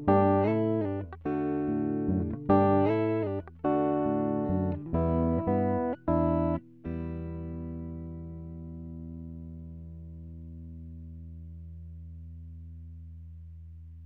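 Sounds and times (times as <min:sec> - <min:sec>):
plucked string chords: 0:00.0 - 0:11.4.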